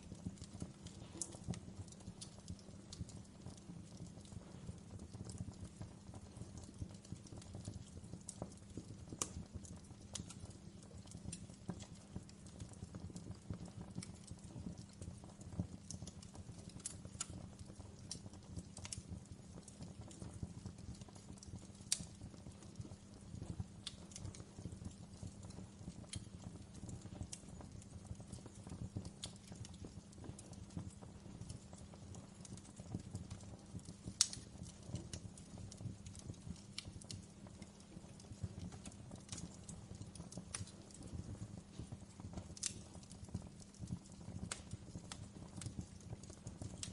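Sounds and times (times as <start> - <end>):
wood fire crackling: 0.0 - 46.9
sharp fire pops: 0.1 - 46.9.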